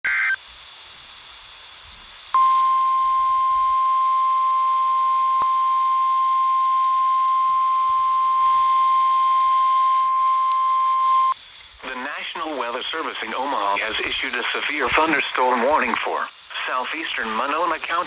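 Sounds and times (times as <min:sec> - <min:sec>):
faint radio hiss: 0:00.1 - 0:18.0.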